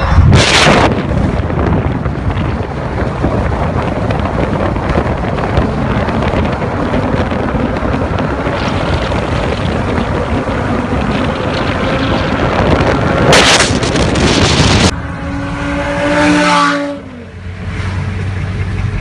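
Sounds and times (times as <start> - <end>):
heavy wind noise: 0.0 - 17.2
car engine running: 0.0 - 19.0.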